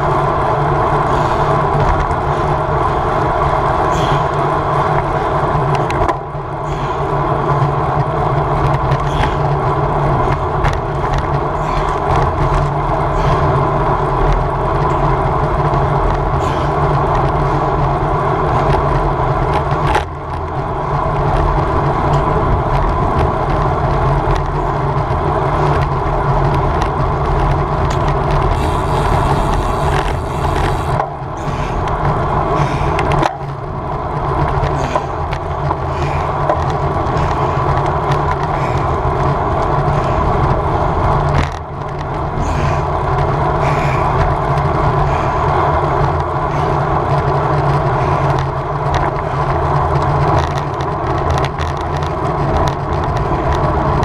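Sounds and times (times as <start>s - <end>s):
bicycle road rumble: 0.0s - 54.0s
wind rushing over microphone: 0.0s - 54.0s.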